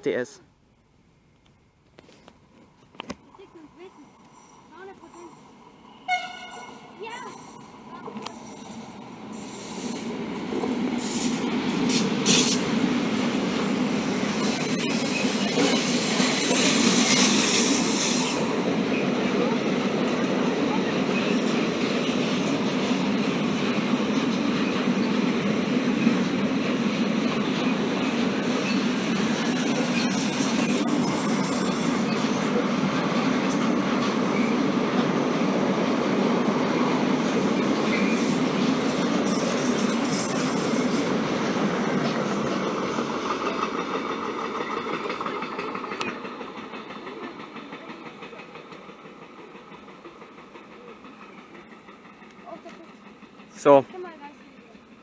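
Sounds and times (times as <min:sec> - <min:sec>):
train wheels rumbling on rails: 0:01.9 - 0:55.0.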